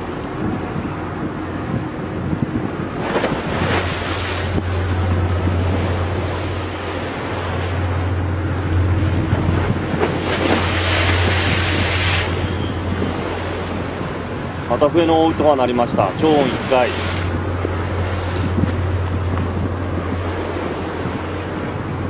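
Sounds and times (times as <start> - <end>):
sea rushing: 0.0 - 22.0
steady low hum: 0.0 - 22.0
wind buffeting microphone: 0.0 - 22.0.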